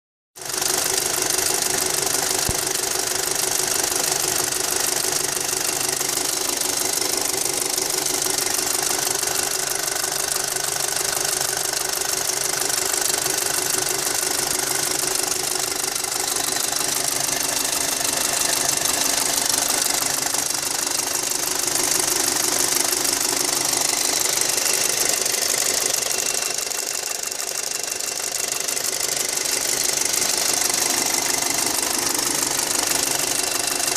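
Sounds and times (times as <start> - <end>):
car engine running: 0.4 - 33.9
fast ticking rattle: 0.6 - 33.9.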